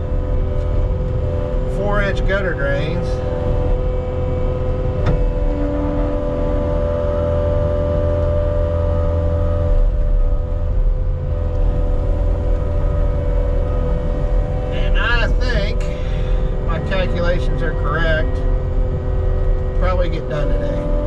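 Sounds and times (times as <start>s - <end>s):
diesel engine droning: 0.0s - 21.0s
steady whine: 0.0s - 21.0s.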